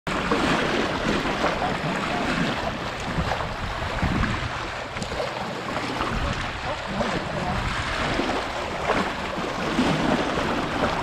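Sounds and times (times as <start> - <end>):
waves lapping against rocks: 0.1 - 11.0
wind buffeting microphone: 0.1 - 11.0.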